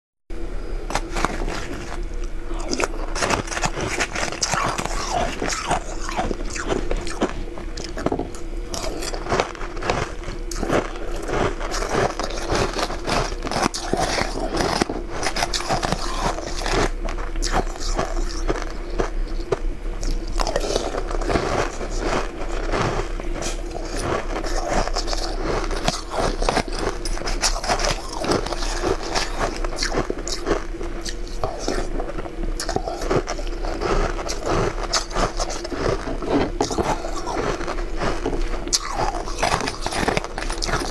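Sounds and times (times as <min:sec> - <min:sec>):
steady low hum: 0:00.3 - 0:40.9
chewing ice: 0:00.9 - 0:40.9.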